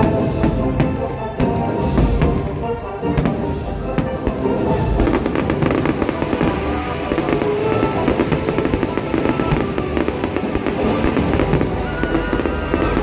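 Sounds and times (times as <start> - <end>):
fireworks crackling and popping: 0.0 - 2.6, 3.2 - 13.0
background music: 0.0 - 13.0.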